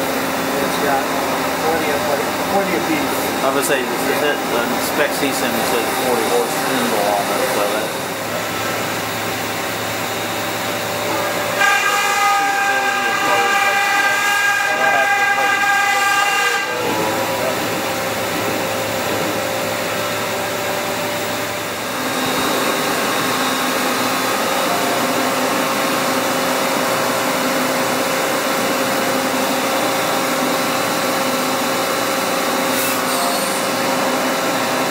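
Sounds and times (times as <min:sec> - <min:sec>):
machine hum: 0:00.0 - 0:34.9.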